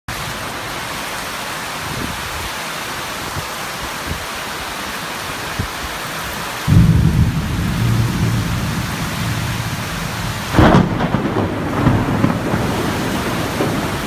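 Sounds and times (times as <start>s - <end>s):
heavy rain: 0.1s - 14.0s.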